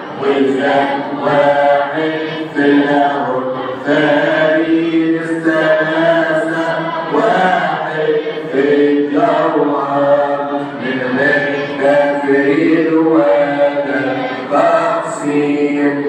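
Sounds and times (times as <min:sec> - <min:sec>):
men chanting a hymn: 0:00.0 - 0:16.0.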